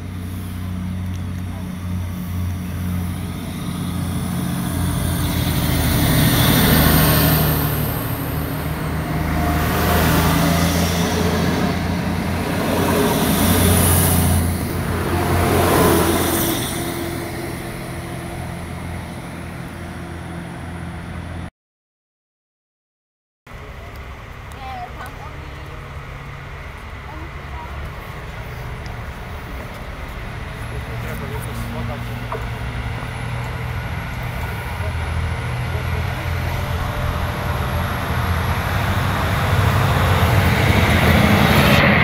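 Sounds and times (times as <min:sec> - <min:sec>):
diesel train engine drone: 0:00.0 - 0:21.5, 0:23.5 - 0:42.0
wheels on rails: 0:00.1 - 0:20.7, 0:23.5 - 0:42.0.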